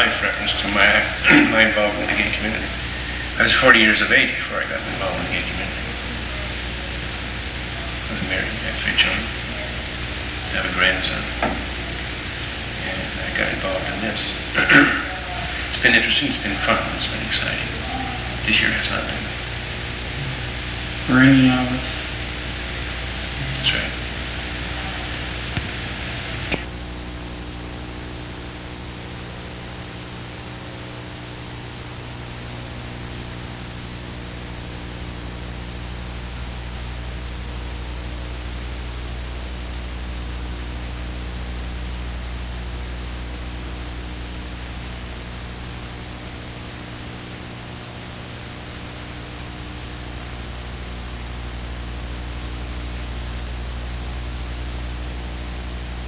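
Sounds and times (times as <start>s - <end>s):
low electrical hum: 0.0s - 56.0s
tape hiss: 0.0s - 56.0s.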